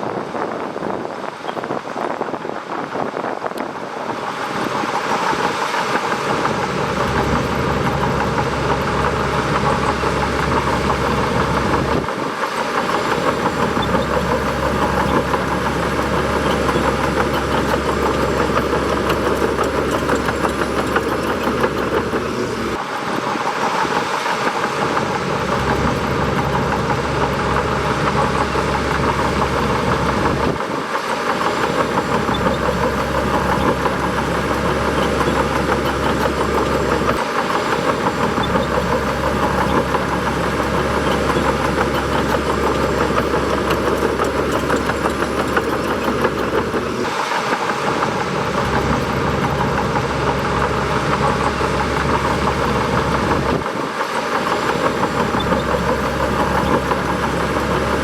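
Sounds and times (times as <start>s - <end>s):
bulldozer engine droning: 0.0s - 58.0s.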